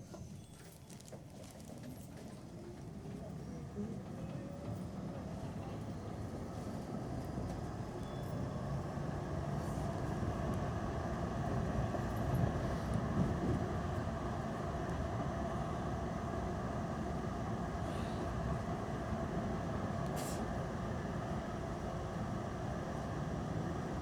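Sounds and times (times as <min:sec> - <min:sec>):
tram rumbling: 0:02.6 - 0:24.0.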